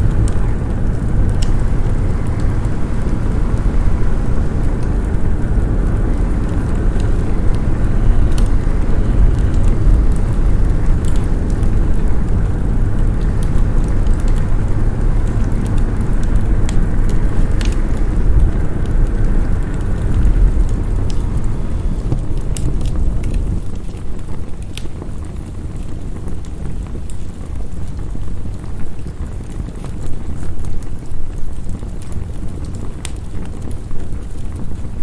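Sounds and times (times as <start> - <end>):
snowstorm wind rumble: 0.0 - 35.0
wood fire crackling: 0.0 - 35.0.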